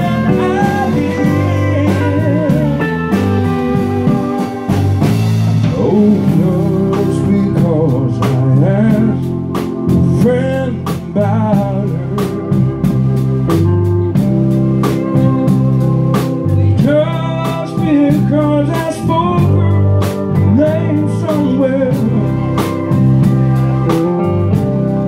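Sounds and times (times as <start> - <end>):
country band playing slow ballad: 0.0 - 25.0
pedal steel guitar gliding notes: 0.0 - 25.0.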